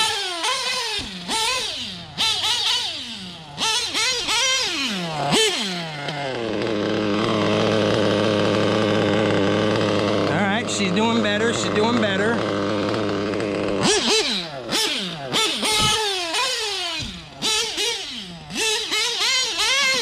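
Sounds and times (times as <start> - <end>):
model engine revving: 0.0 - 20.0.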